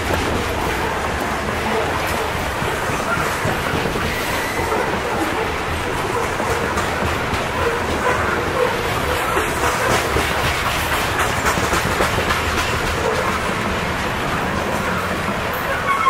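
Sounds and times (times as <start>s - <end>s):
freight train rumbling past: 0.0s - 16.0s
wheels clacking over rail joints: 0.0s - 16.0s.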